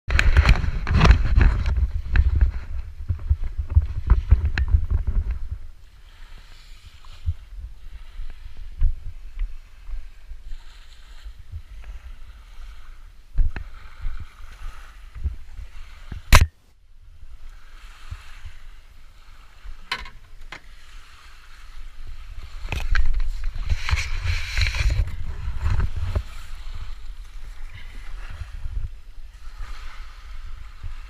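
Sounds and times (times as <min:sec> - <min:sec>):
water rushing past a boat: 0:00.1 - 0:31.0
wind rumble on microphone: 0:00.1 - 0:31.0.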